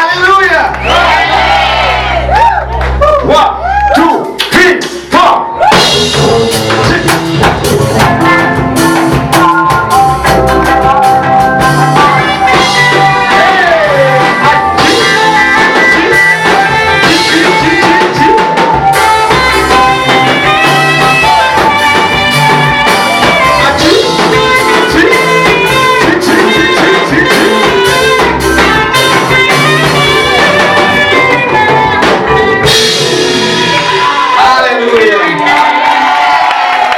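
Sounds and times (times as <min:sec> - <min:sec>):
live band playing praise music: 0:00.0 - 0:36.9
drum kit beat: 0:04.1 - 0:34.5
guitar: 0:04.2 - 0:34.5.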